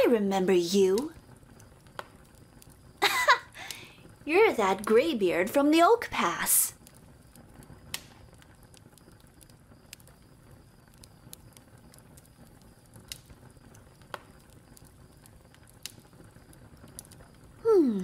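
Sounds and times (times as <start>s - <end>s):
low steady hiss: 0.0s - 18.0s
sharp clicks and pops: 0.8s - 17.7s.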